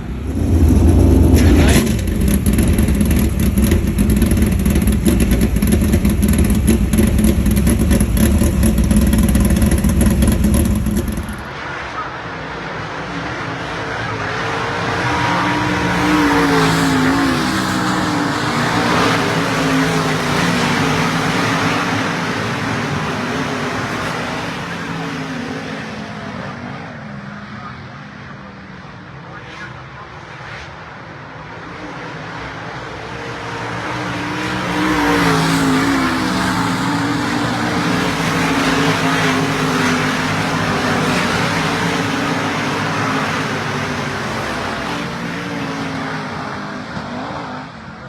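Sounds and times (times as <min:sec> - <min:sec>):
race car engines rumbling: 0:00.0 - 0:48.0
race cars passing by: 0:00.0 - 0:48.0.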